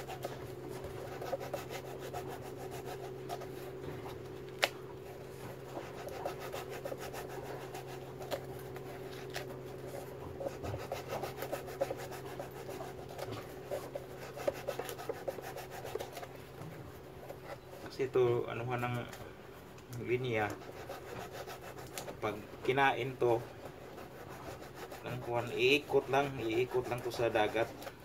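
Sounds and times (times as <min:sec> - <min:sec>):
knife scraping buoy: 0:00.0 - 0:18.2, 0:20.2 - 0:28.0
steady background hum: 0:00.0 - 0:28.0.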